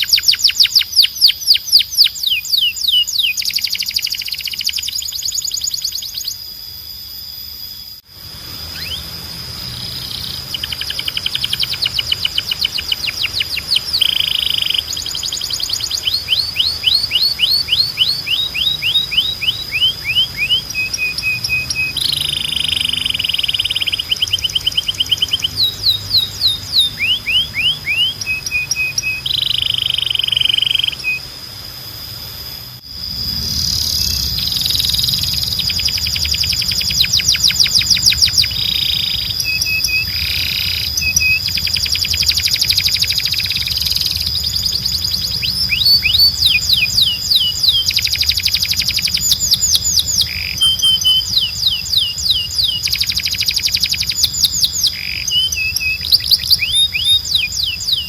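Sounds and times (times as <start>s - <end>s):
canary singing: 0.0s - 6.7s, 7.8s - 58.0s.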